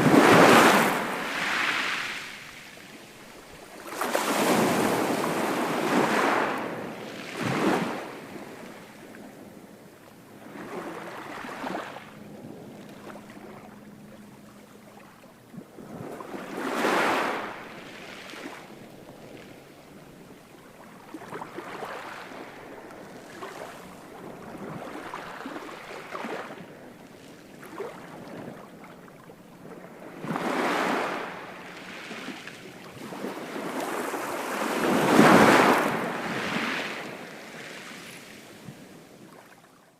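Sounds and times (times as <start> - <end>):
ocean waves breaking: 0.0 - 39.5.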